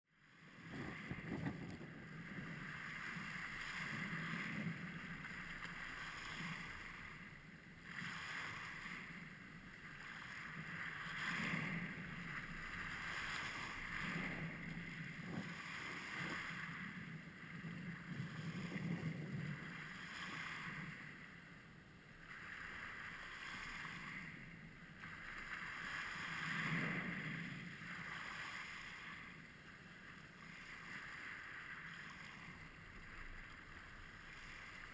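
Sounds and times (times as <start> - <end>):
waves washing over pebbles: 0.4 - 21.3, 22.3 - 34.9.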